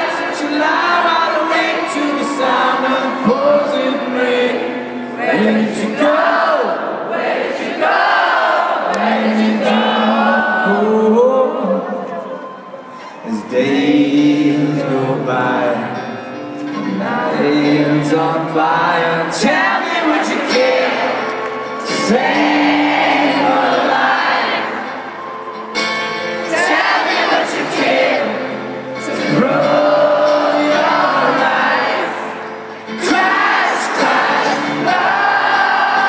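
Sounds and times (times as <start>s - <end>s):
man singing with guitar: 0.0s - 6.9s, 9.0s - 12.3s, 13.0s - 24.8s, 26.0s - 36.0s
crowd singing along: 0.0s - 36.0s.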